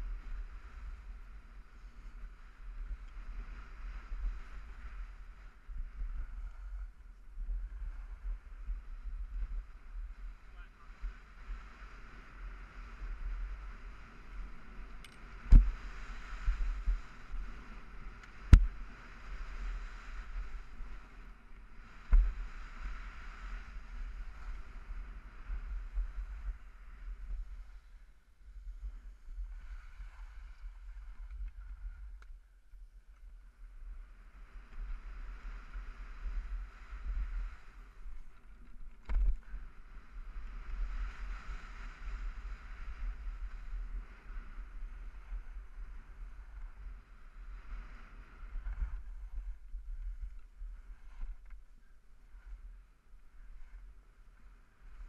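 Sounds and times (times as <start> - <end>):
skis scraping over snow: 0.0 - 32.1, 34.4 - 55.0
wind rumbling on camera: 0.0 - 55.0.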